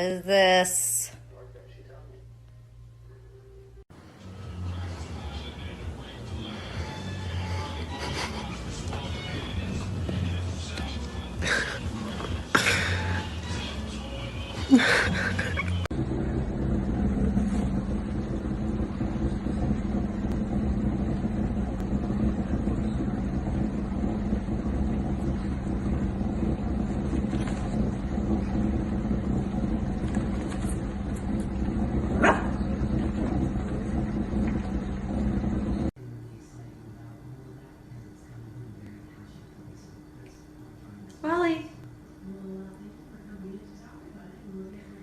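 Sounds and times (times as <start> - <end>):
low rumble with hum: 0.0 - 45.0.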